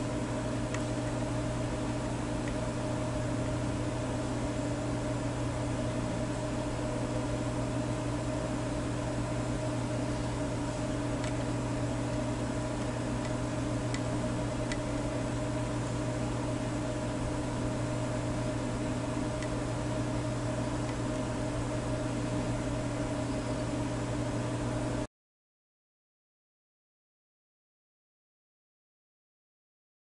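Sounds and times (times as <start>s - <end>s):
mechanical hum with low drone: 0.0s - 25.1s.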